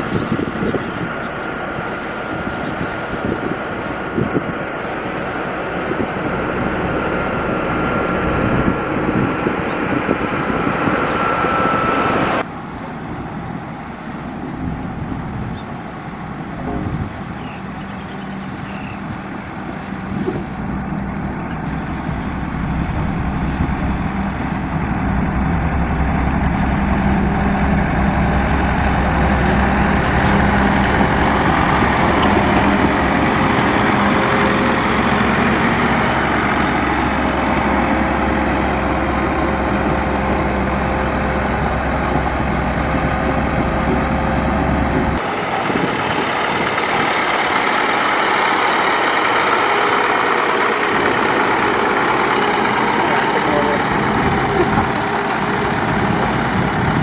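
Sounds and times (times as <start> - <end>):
diesel engine rumble: 0.0 - 57.0
lighter engine drone: 1.2 - 13.0, 19.2 - 57.0.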